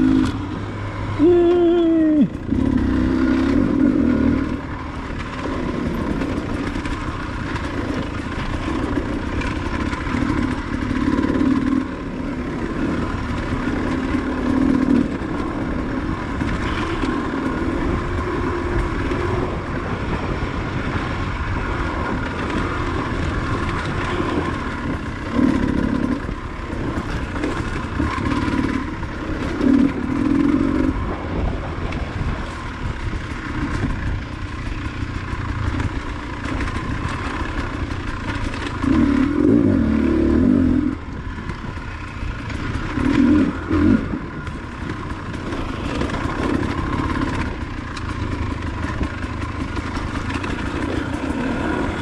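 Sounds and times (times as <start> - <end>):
dirt bike engine revving: 0.0 - 52.0
rush of noise: 0.0 - 52.0.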